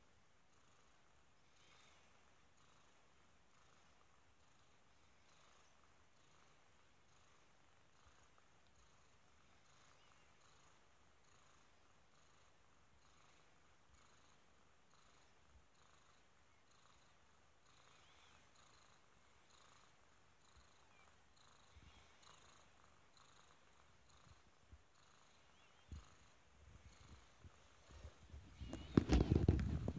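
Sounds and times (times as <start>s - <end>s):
kitten purring: 0.0s - 29.9s.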